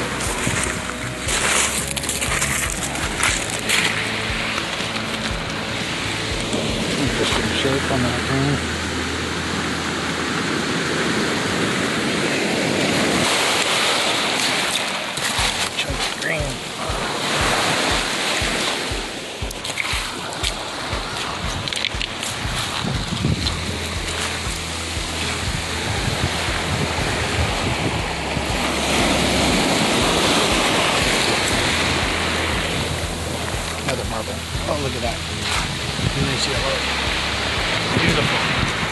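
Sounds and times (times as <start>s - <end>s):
surf on pebble beach: 0.0s - 38.9s
wind rumbling on microphone: 0.0s - 38.9s.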